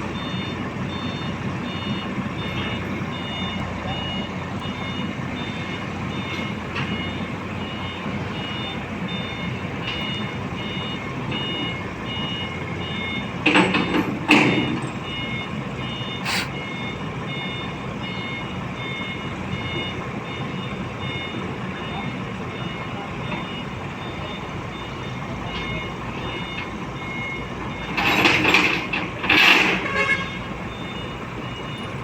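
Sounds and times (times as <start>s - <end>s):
backup alarm beeping: 0.0s - 32.0s
diesel engine running: 0.0s - 32.0s.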